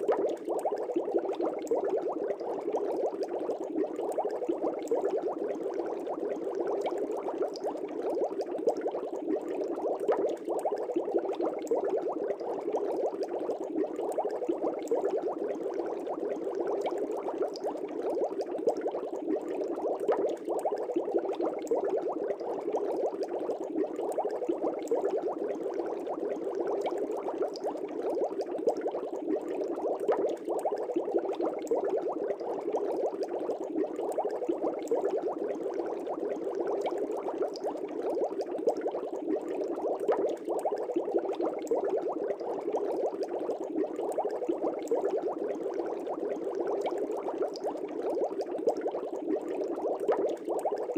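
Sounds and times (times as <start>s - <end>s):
air bubbles in water: 0.0s - 50.9s.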